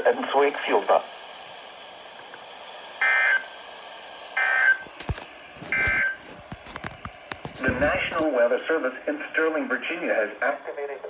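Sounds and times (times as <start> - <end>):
steady radio hiss: 0.0 - 11.0.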